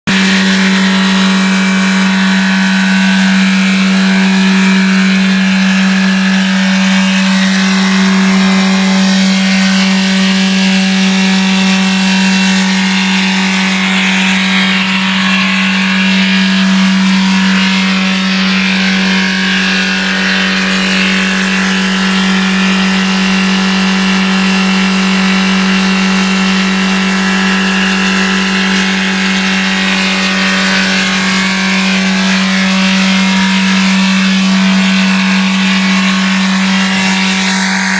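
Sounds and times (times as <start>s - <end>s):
diesel engine running flat out: 0.1s - 37.9s.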